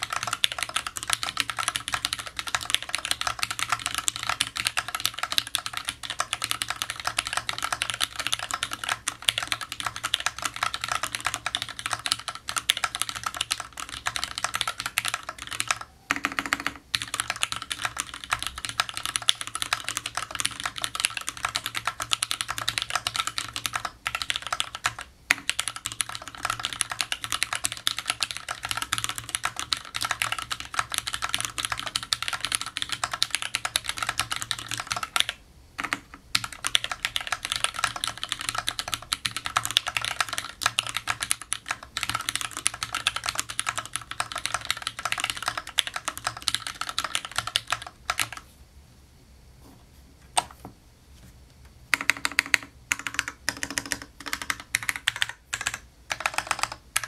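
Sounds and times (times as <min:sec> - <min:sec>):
fast typing on mechanical keyboard: 0:00.0 - 0:48.4, 0:51.9 - 0:57.0.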